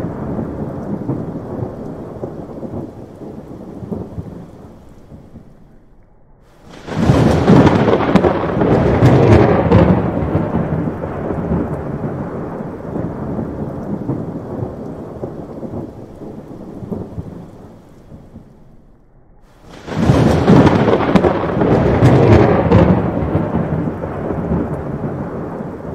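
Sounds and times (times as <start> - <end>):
thunder crack and rumble: 0.0 - 25.9.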